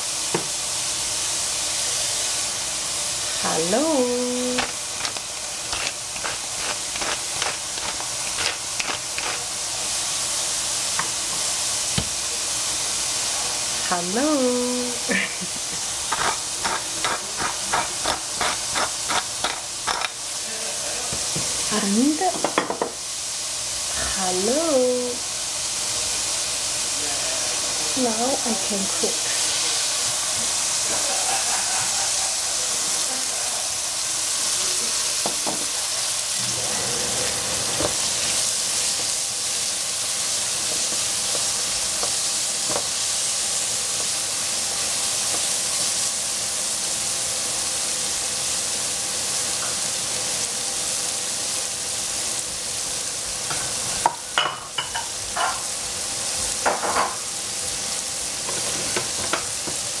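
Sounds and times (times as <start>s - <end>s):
vegetables sizzling in frying pan: 0.0s - 60.0s.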